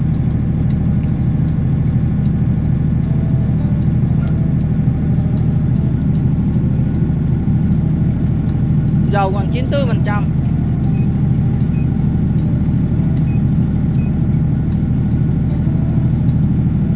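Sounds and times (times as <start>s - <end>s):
diesel generator running: 0.0s - 16.9s.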